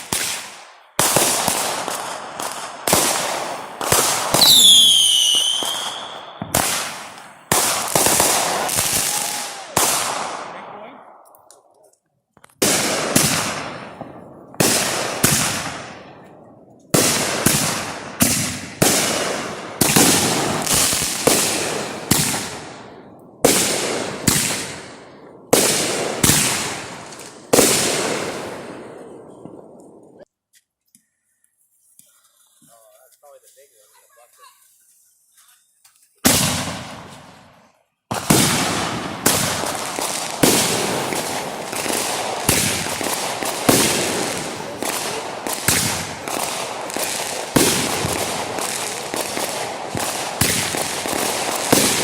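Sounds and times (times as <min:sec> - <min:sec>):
fireworks banging: 0:00.0 - 0:11.0, 0:12.4 - 0:30.3, 0:36.2 - 0:52.0.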